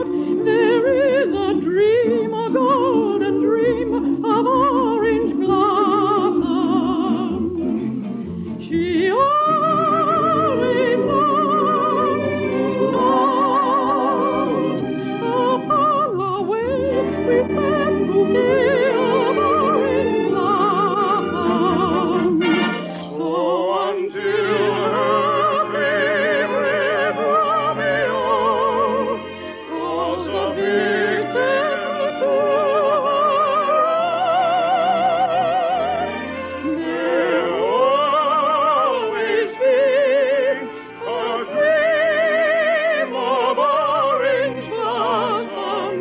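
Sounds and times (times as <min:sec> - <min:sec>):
operetta singing with vibrato: 0:00.0 - 0:46.0
orchestral accompaniment: 0:00.0 - 0:46.0.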